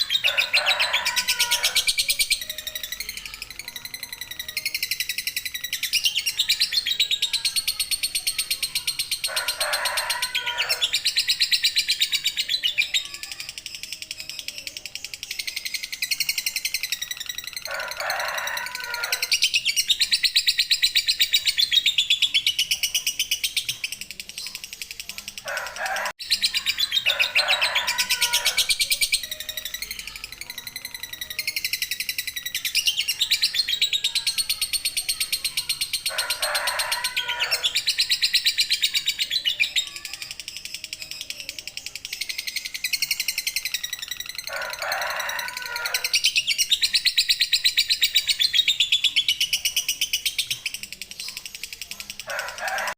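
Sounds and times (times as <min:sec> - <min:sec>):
bird chattering song: 0:00.0 - 0:52.9.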